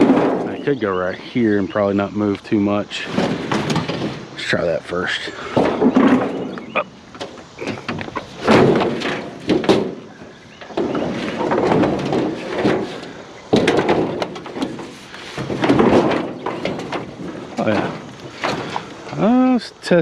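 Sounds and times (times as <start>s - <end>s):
metal scraping: 2.8s - 19.4s
scrap metal knocking: 3.0s - 19.3s.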